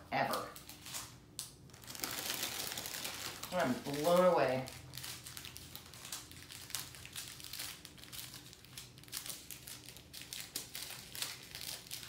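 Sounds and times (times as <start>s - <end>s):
plastic bags crinkling: 0.3s - 12.0s.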